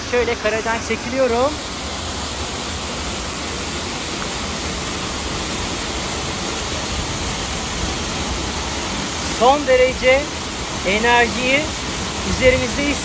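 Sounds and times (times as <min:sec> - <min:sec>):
waterfall rushing into pool: 0:00.0 - 0:13.0.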